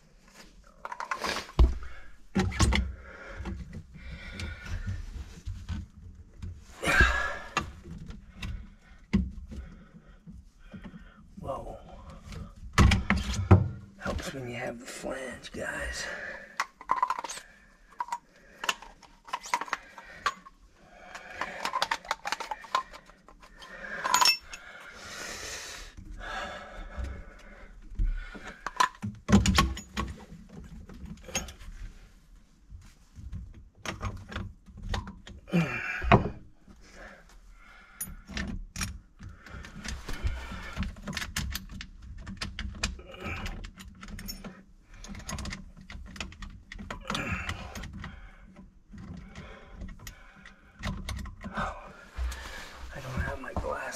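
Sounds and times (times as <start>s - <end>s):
plastic and metal parts clattering: 0.6s - 11.0s, 16.5s - 24.7s, 27.0s - 31.9s, 33.1s - 36.8s, 38.0s - 53.9s.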